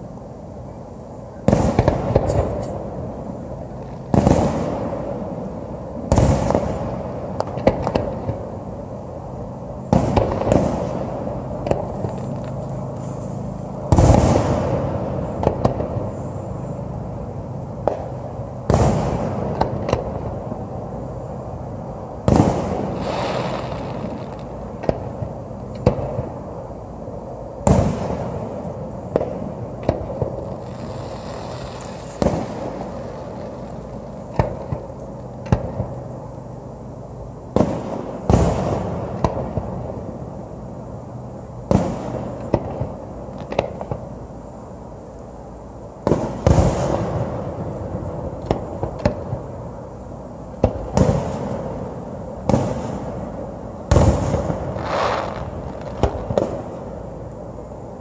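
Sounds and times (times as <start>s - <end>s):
fireworks pops and crackles: 1.0s - 8.8s, 9.6s - 16.6s, 17.6s - 21.2s, 22.2s - 26.8s, 27.6s - 36.1s, 37.5s - 40.3s, 41.6s - 44.4s, 45.1s - 58.0s
fireworks booming: 1.3s - 26.8s, 27.6s - 36.1s, 37.5s - 40.4s, 41.6s - 44.2s, 46.0s - 57.2s.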